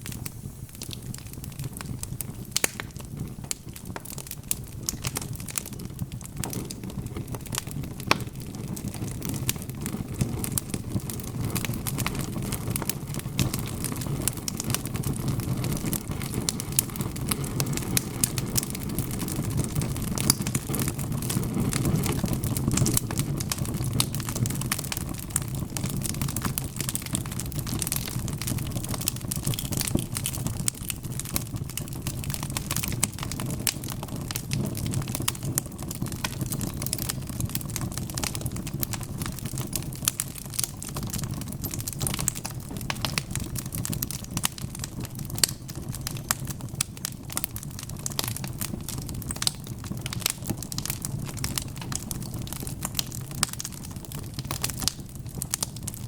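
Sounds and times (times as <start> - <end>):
low rumble of flames: 0.0 - 56.0
wood fire popping and snapping: 0.0 - 56.0.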